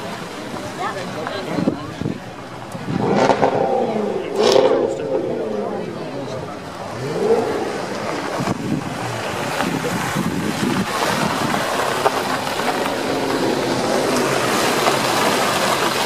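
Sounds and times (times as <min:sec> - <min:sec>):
car engine at low revs: 0:00.0 - 0:16.0
second car engine: 0:00.0 - 0:16.0.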